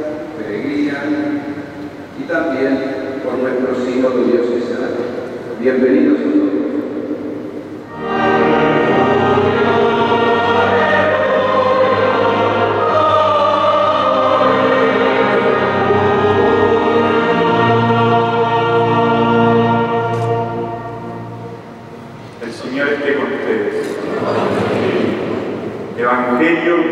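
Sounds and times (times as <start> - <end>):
choir singing held chords: 0.0 - 26.8.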